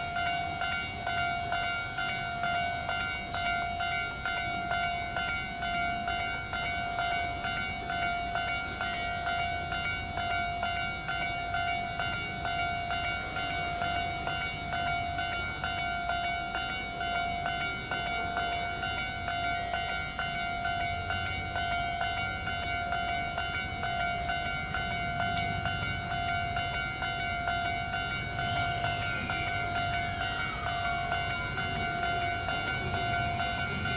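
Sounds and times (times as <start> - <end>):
level-crossing alarm clanging: 0.0 - 33.9.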